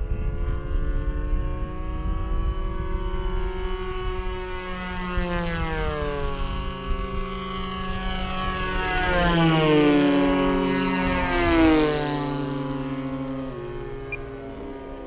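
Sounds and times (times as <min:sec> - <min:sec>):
model airplane engines buzzing: 0:00.0 - 0:15.0.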